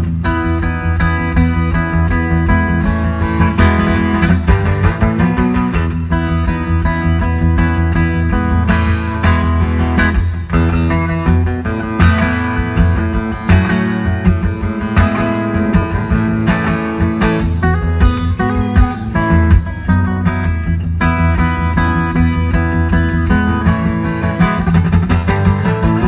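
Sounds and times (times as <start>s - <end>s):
fingerstyle acoustic guitar: 0.0s - 26.0s.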